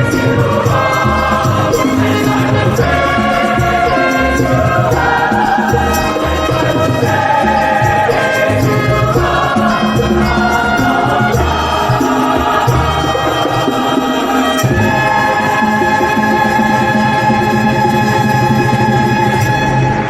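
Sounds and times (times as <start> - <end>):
choir singing sustained chords: 0.0 - 20.0
instrumental accompaniment: 0.0 - 20.0.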